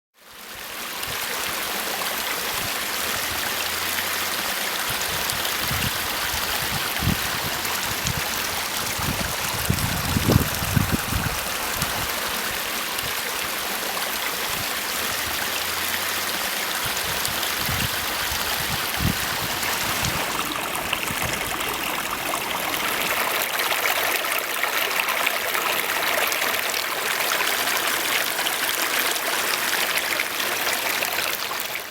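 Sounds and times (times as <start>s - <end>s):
waterfall splashing over rocks: 0.2s - 31.9s.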